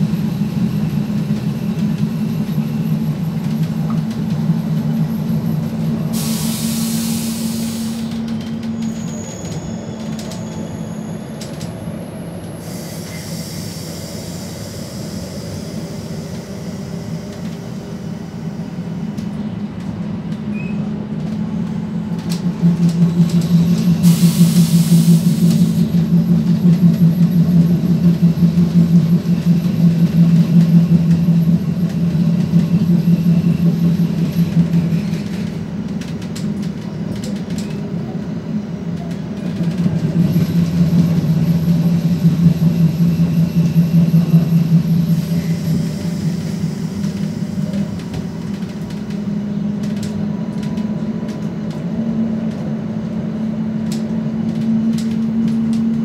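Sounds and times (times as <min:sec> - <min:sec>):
low diesel engine drone: 0:00.0 - 0:56.0
train wheel and track rumble: 0:00.0 - 0:56.0.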